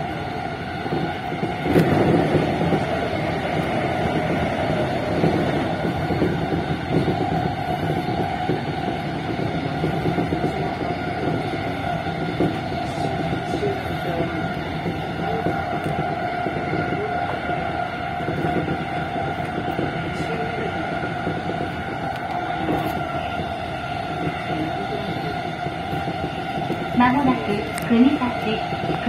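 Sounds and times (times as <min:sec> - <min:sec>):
train whine: 0:00.0 - 0:29.0
wheels rumbling on rail: 0:00.0 - 0:29.0.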